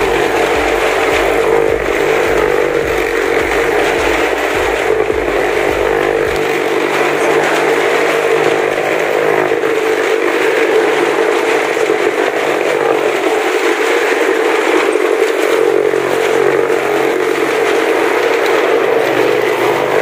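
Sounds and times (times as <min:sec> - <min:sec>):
car engine running hard: 0:00.0 - 0:20.0.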